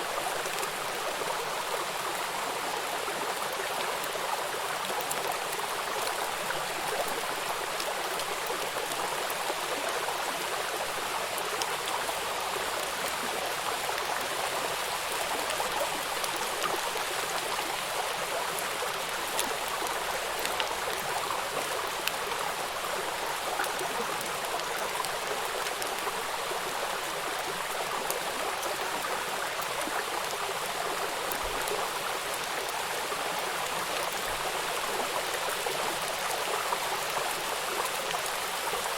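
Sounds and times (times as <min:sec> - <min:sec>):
faint raindrop ticks: 0:03.3 - 0:38.9.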